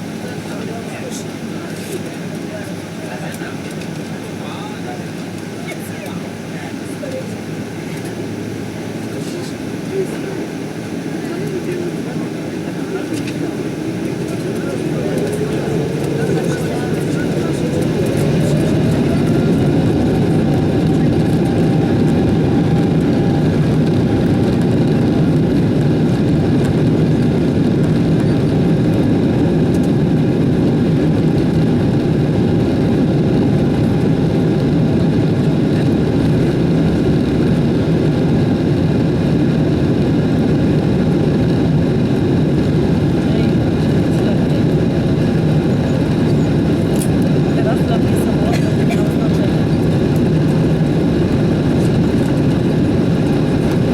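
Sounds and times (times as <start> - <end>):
jet engine cabin rumble: 0.0 - 53.9
jet engine whine: 0.0 - 53.9.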